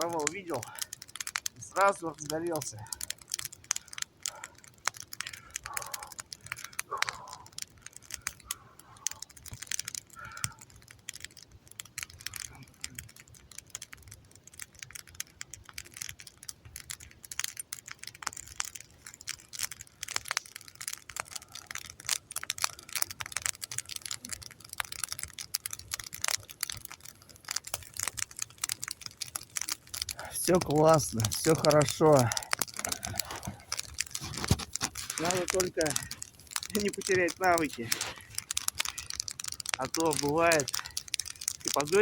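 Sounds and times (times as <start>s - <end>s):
campfire crackling: 0.0s - 42.0s.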